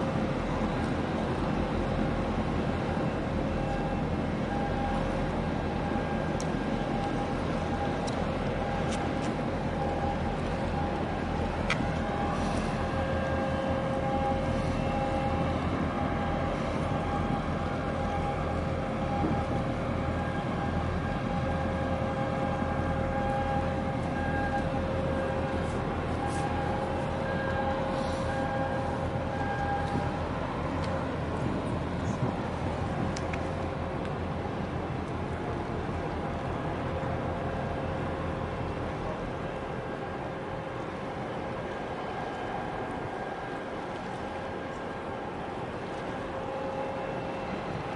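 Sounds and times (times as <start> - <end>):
diesel engines rumbling with whine: 0.0 - 47.9.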